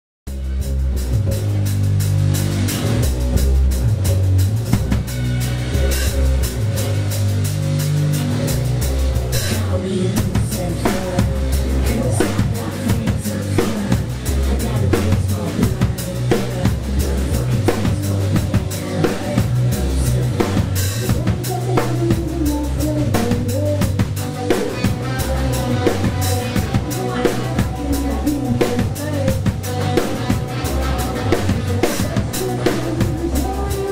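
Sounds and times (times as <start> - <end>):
drum kit: 0.3 - 33.9
rock band playing live: 0.3 - 33.9.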